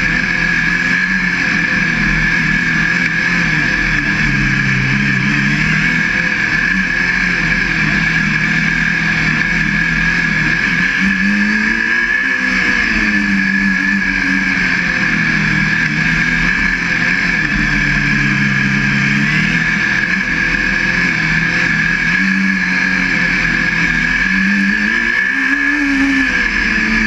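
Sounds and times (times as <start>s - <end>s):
high-pitched whine: 0.0s - 27.0s
race car engine accelerating: 0.0s - 27.0s.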